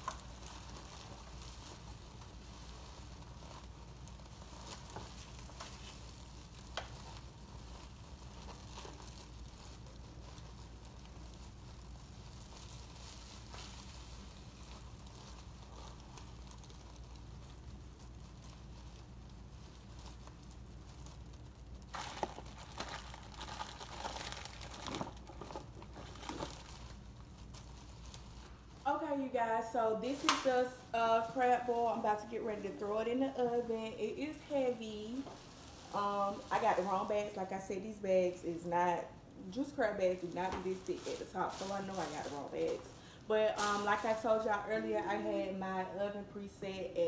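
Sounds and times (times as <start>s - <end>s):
plastic bag crinkling: 0.0s - 47.0s.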